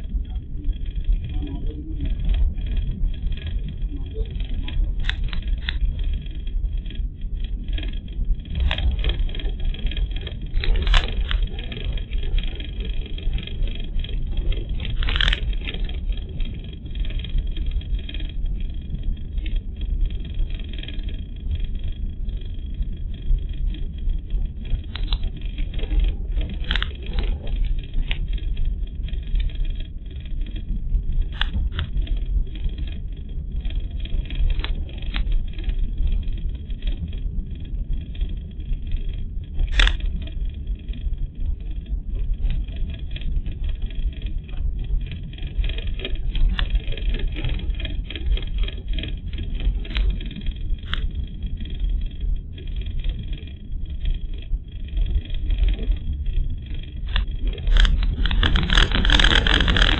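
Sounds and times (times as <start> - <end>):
tyre and engine rumble: 0.0 - 59.9.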